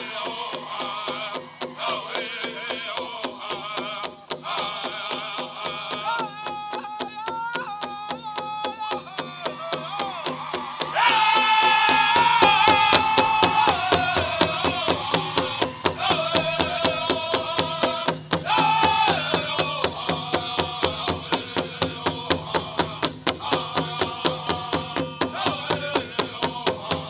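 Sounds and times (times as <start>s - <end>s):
singers chanting in high voices: 0.0s - 27.0s
big drum beaten fast: 3.2s - 27.0s.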